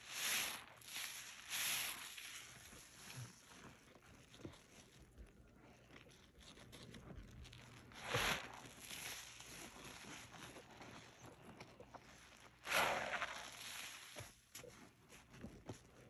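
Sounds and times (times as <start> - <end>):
sponge lather crackling: 0.0 - 4.4, 7.0 - 16.0.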